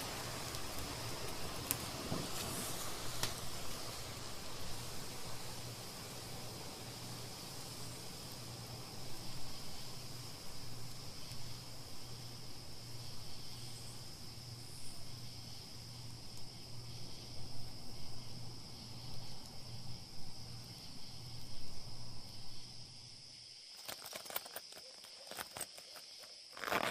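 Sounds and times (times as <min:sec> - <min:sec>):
crickets chirping: 0:00.0 - 0:26.9.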